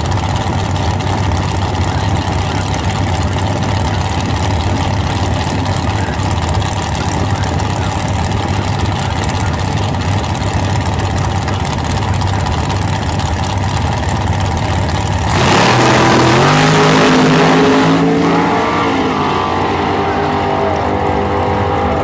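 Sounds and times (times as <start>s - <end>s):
dragster engine roaring: 0.0s - 22.0s.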